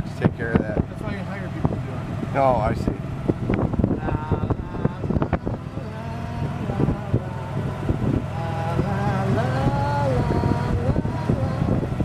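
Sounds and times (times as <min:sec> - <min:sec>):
golf cart running hum: 0:00.0 - 0:12.0.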